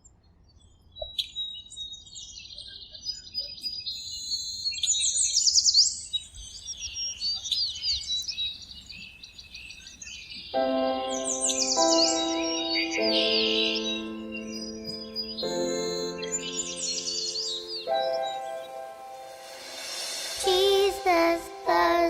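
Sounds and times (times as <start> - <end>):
songbirds chirping and singing: 0.6 - 22.0.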